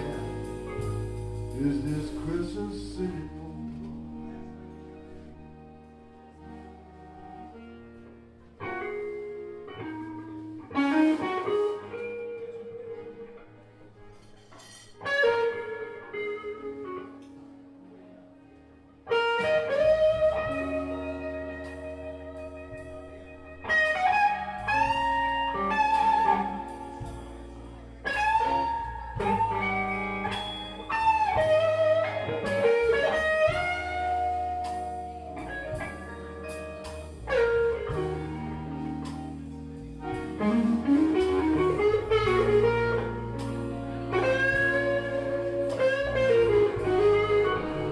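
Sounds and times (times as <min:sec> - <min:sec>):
electric guitar bending notes: 0:00.0 - 0:14.4, 0:15.0 - 0:47.9
bass guitar: 0:00.0 - 0:47.9.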